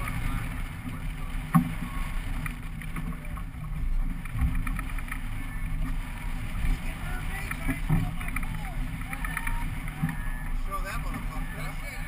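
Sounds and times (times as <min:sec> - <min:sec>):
outboard motors rumbling: 0:00.0 - 0:12.0
water noise: 0:00.0 - 0:12.0
wind: 0:00.0 - 0:12.0.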